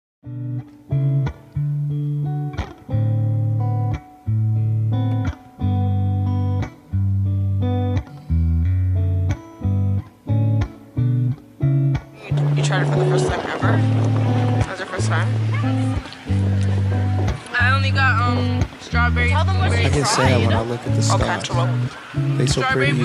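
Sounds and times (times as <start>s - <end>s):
plucked guitar: 0.2s - 23.0s
bass line: 0.3s - 23.0s.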